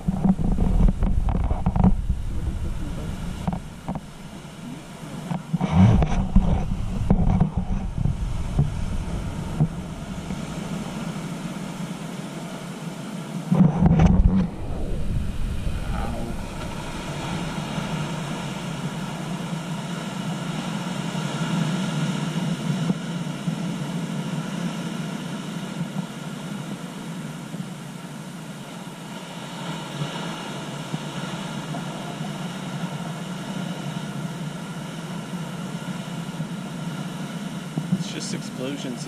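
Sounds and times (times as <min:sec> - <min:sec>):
ocean waves breaking on rocks: 0:00.0 - 0:27.2, 0:28.0 - 0:39.0.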